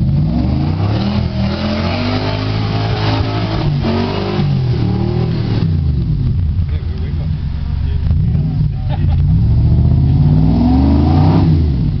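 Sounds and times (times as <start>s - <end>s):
pickup engine revving hard: 0.0s - 6.0s, 8.1s - 12.0s.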